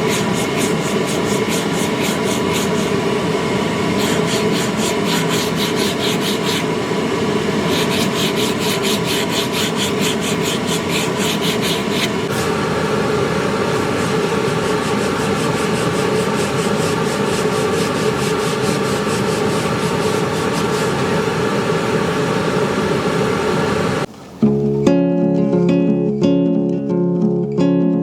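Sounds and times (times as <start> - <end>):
sanding wood scratching: 0.0 - 24.0
sanding machine hum: 0.0 - 24.1.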